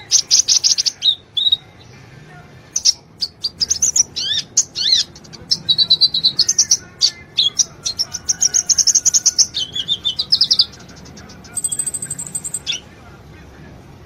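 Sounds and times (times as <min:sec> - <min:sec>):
bird singing chirps and trills: 0:00.0 - 0:02.0, 0:02.7 - 0:12.9.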